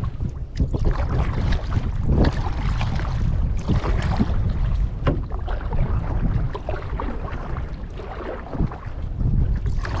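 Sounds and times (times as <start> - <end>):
paddle splashing in water: 0.0 - 10.0
wind rumble on microphone: 0.0 - 10.0.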